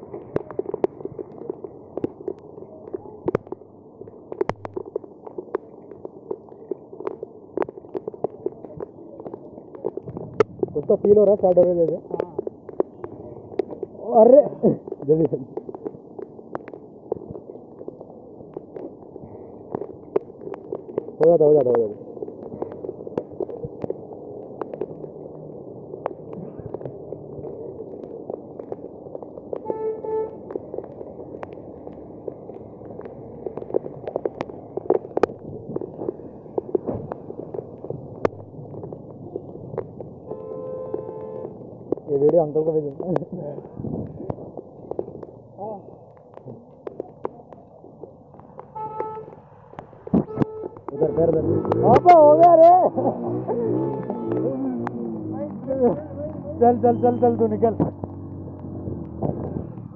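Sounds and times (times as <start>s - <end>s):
raindrops tapping on microphone: 0.0s - 59.9s.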